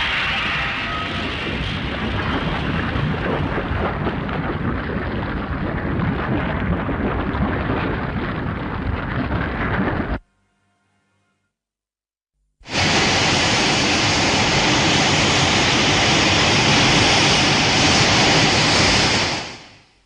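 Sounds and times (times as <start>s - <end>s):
loud continuous rumbling: 0.0s - 10.3s, 12.6s - 19.9s.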